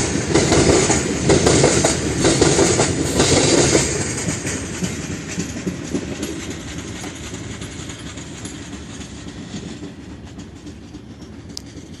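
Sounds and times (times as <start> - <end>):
wheels clicking over rail joints: 0.0 - 12.0.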